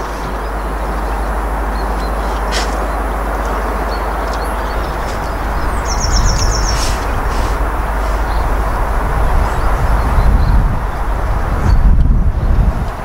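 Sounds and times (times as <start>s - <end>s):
steam locomotive approaching: 0.0s - 13.0s.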